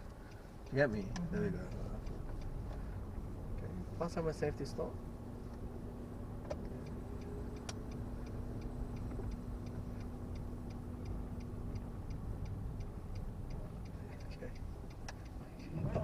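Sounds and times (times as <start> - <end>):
low rumble of car: 0.0 - 16.0
turn indicator ticking: 0.0 - 16.0.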